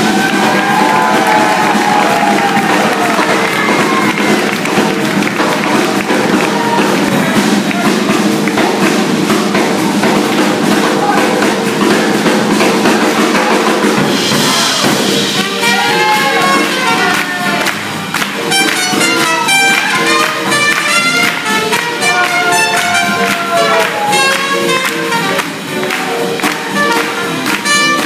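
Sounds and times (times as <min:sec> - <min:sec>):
jazz band playing swing: 0:00.0 - 0:28.0
sharp hand claps: 0:00.2 - 0:10.5, 0:15.4 - 0:28.0.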